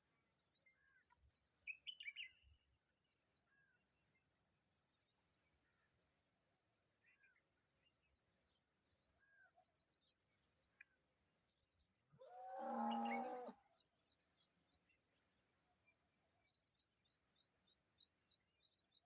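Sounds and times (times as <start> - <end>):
birds chirping faintly: 0.2 - 19.0.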